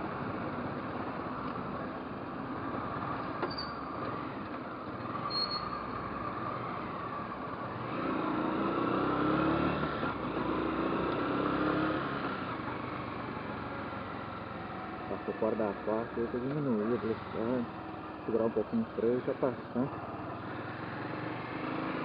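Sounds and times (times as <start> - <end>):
motorcycle engine: 2.6 - 22.0.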